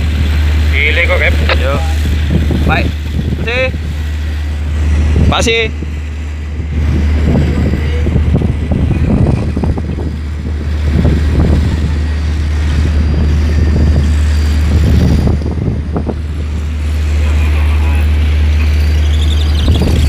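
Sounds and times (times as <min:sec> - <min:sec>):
steady low hum: 0:00.0 - 0:20.0
wind buffeting microphone: 0:00.0 - 0:20.0.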